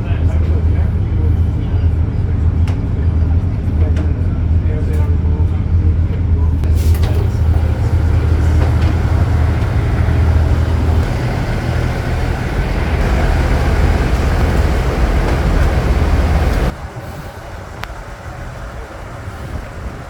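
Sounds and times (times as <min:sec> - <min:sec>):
diesel train rumbling: 0:00.0 - 0:20.0
steady background noise: 0:00.0 - 0:20.0.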